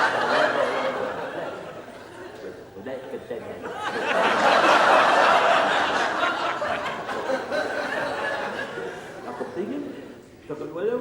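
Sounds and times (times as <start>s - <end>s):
audience laughing: 0.0s - 2.6s, 3.6s - 10.1s.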